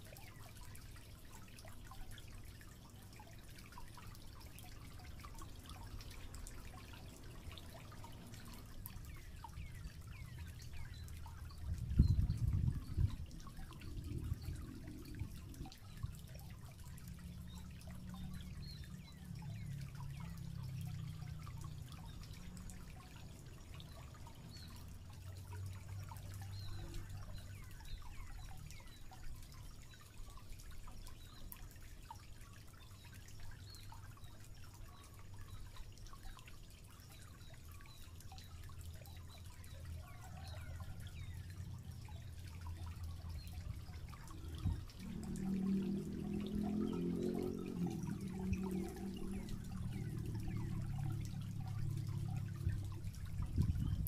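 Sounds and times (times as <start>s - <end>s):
water trickling and dripping: 0.0s - 54.0s.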